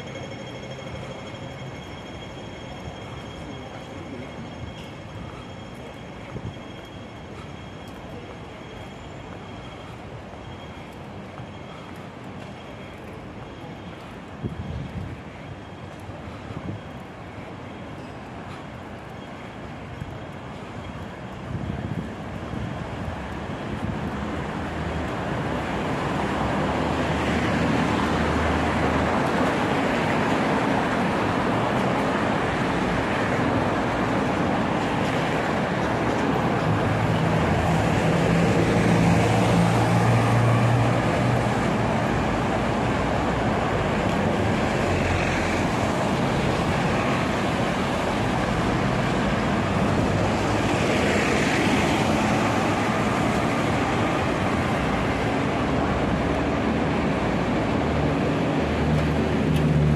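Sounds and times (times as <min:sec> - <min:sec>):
road noise from passing cars: 0:00.0 - 0:59.9.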